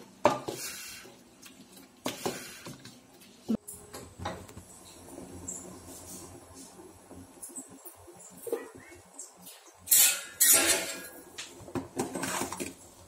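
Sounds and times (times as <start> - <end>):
pot boiling and bubbling: 0.0 - 13.0.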